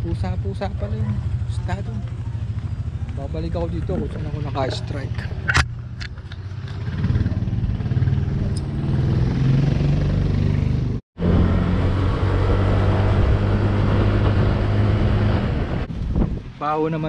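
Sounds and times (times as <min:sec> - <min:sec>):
scooter engine riding along: 0:00.0 - 0:16.0.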